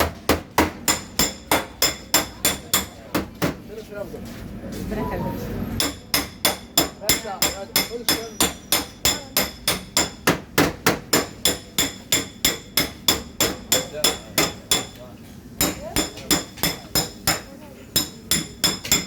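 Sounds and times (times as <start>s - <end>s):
hammer tapping on sheet metal: 0.0s - 3.6s, 5.8s - 15.0s, 15.6s - 19.0s.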